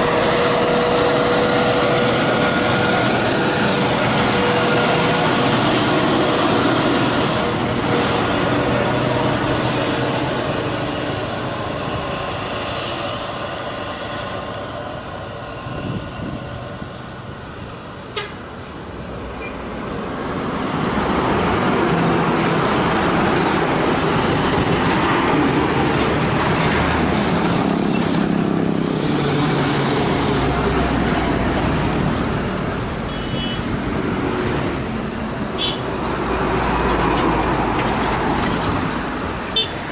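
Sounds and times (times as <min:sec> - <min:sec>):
truck diesel engines labouring: 0:00.0 - 0:39.9.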